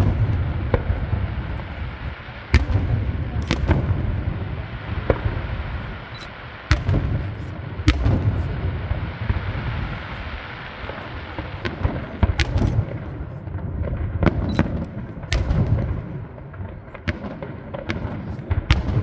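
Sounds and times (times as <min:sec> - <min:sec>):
firework cracks and bangs: 0:00.0 - 0:19.0
rumble of firework bursts: 0:00.0 - 0:19.0.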